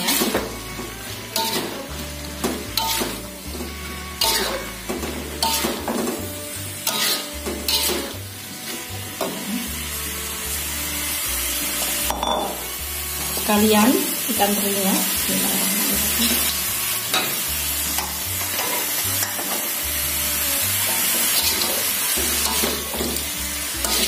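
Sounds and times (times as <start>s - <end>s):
metal spatula scraping wok: 0.0s - 13.6s, 15.6s - 24.0s
food sizzling in pan: 0.0s - 24.0s.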